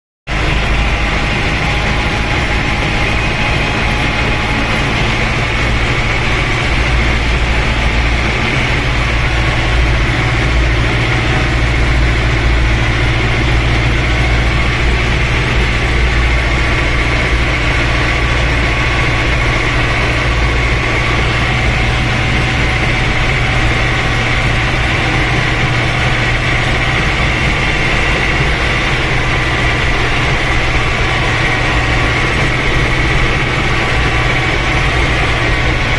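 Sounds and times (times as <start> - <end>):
tractor diesel engine running: 0.3 - 35.9.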